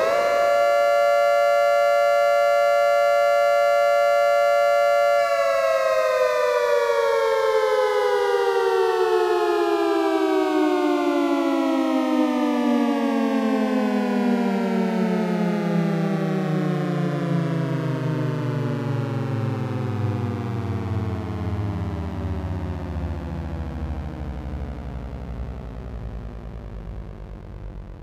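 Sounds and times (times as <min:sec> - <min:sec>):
dual-tone warning siren: 0:00.0 - 0:28.0.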